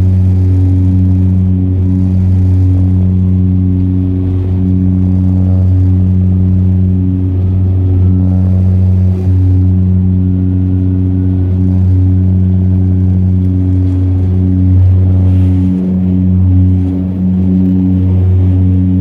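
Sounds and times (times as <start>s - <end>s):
propeller engines droning: 0.0s - 19.0s.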